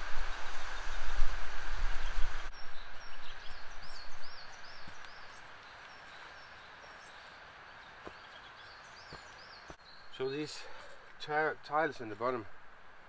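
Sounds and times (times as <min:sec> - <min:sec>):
songbird chirping: 0:02.0 - 0:12.4.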